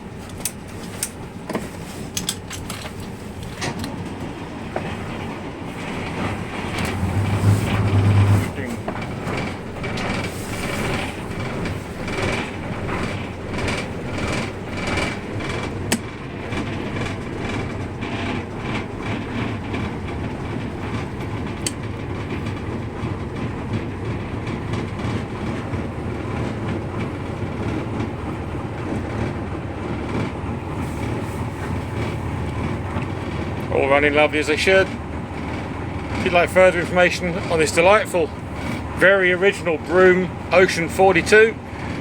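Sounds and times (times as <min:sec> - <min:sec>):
boat engines running: 0:00.0 - 0:42.0.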